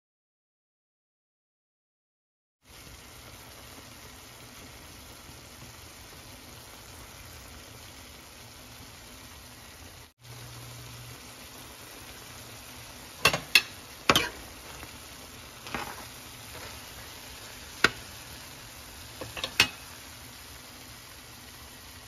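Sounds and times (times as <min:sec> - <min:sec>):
fish sizzling in a pan: 0:02.6 - 0:22.0.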